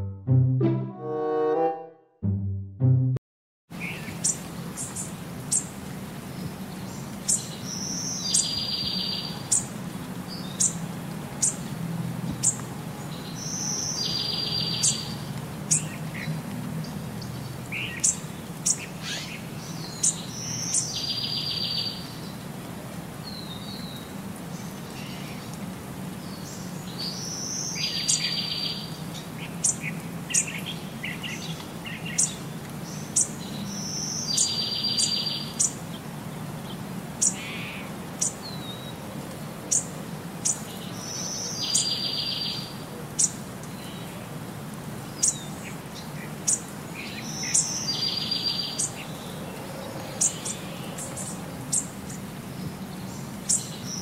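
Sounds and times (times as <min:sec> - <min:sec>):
songbirds chirping: 0:03.7 - 0:54.0.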